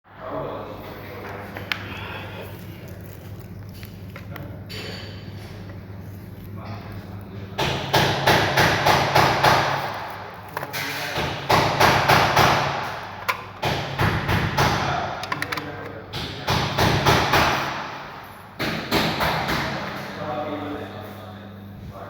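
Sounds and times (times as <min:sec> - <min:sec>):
steady low hum: 0:00.1 - 0:22.0.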